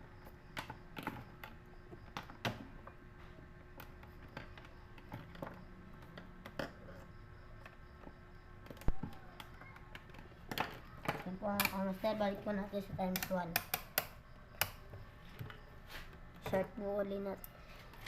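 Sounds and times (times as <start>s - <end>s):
faint steady hum: 0.0s - 18.0s
small parts and tools clicking: 0.2s - 16.8s.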